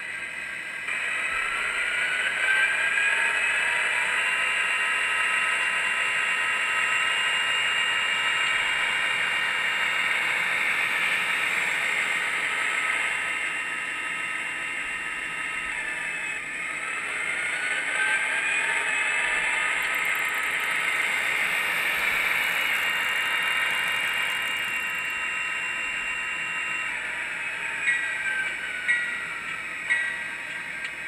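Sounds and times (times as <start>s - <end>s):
model locomotive diesel engine sound: 0.0s - 31.0s.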